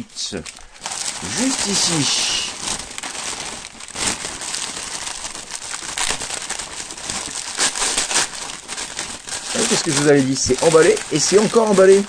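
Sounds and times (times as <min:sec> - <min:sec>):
paper crumpling and crinkling: 0:00.2 - 0:12.0.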